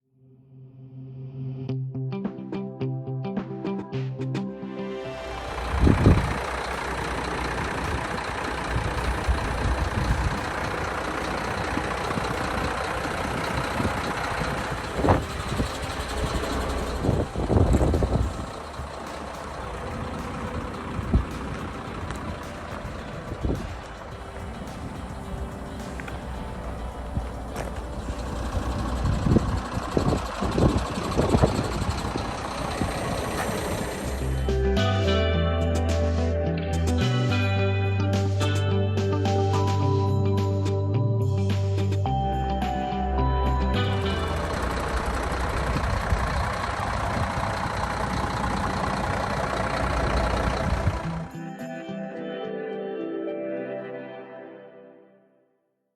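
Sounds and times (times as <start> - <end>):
diesel truck engine rumbling: 5.1 - 51.4.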